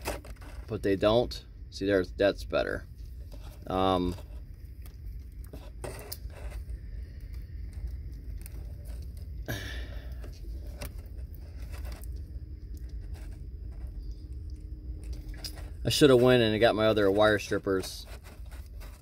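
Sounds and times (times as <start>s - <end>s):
scraping rustle: 0.0s - 1.2s, 2.9s - 19.0s
steady low rumble: 0.0s - 19.0s
light clicks and rustles: 2.9s - 9.4s, 10.0s - 19.0s.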